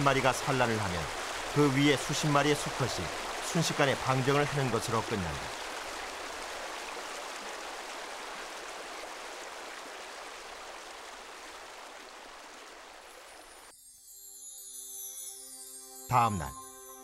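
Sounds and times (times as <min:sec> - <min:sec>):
stream flowing over rocks: 0:00.0 - 0:13.7.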